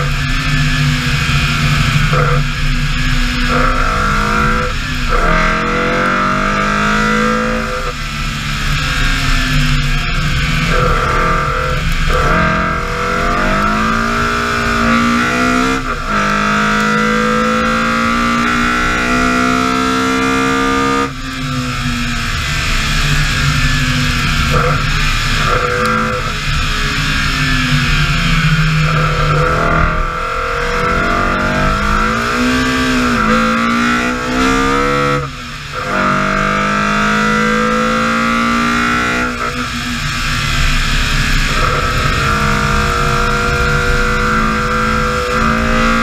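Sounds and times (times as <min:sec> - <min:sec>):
rally car engine accelerating: 0:00.0 - 0:46.0
road noise: 0:00.0 - 0:46.0.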